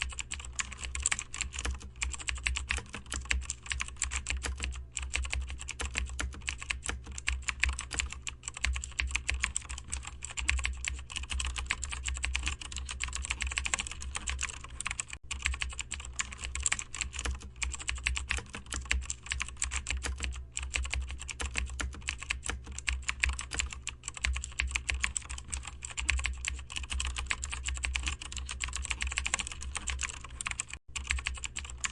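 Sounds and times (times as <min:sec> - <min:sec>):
low steady hum: 0:00.0 - 0:31.9
rapid keyboard typing: 0:00.0 - 0:31.9.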